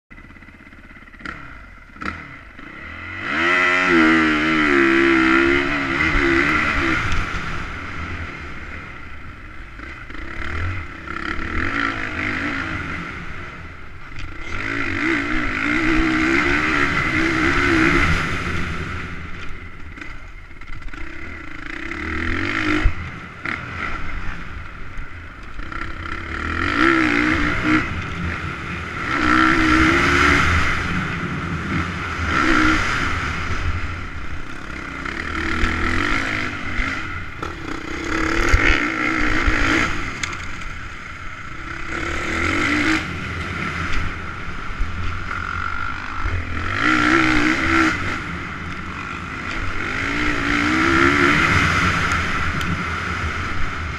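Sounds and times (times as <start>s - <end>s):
motocross bike engine revving: 0.1s - 53.9s.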